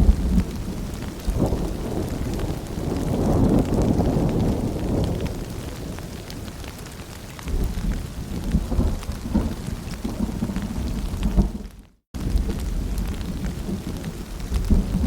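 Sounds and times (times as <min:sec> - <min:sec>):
patter of raindrops: 0:00.0 - 0:15.0
rain falling: 0:00.0 - 0:15.0
thunder rumbling: 0:00.0 - 0:15.0.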